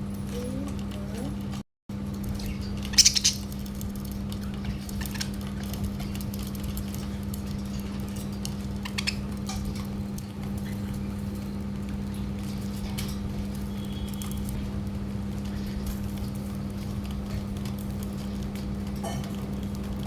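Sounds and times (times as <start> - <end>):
birds pecking at a plate: 0.0 - 20.0.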